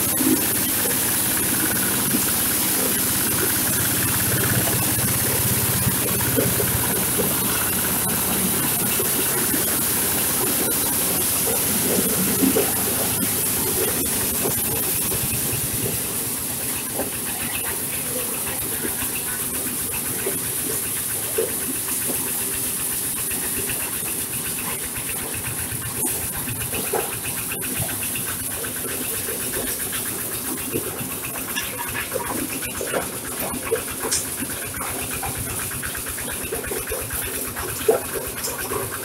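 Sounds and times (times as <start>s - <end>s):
corn sheller machine running: 0.0s - 39.0s.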